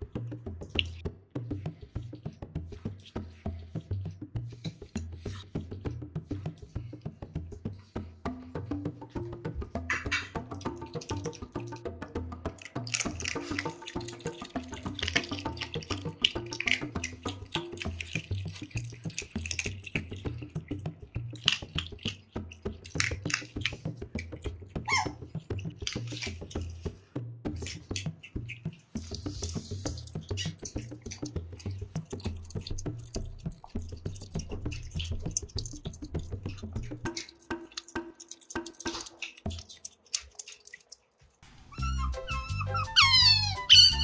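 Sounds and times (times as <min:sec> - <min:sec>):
otter chewing with wet smacks: 0:00.0 - 0:07.1, 0:09.1 - 0:11.9, 0:12.5 - 0:41.4.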